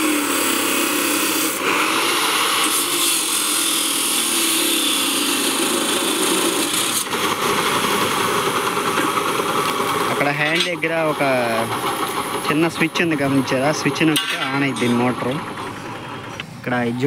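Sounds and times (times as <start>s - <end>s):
chop saw grinding metal: 0.0s - 15.4s.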